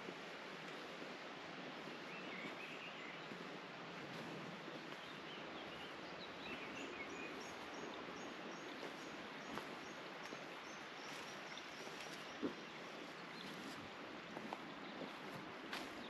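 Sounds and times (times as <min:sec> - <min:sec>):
flowing water: 0:00.0 - 0:16.0
small birds calling: 0:01.9 - 0:16.0.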